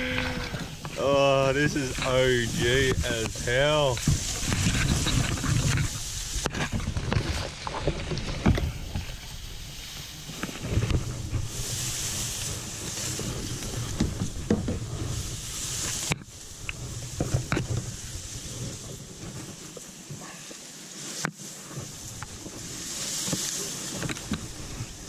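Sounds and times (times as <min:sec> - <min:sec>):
paddle strokes splashing: 0:00.0 - 0:25.0
water rushing around kayak: 0:00.0 - 0:25.0.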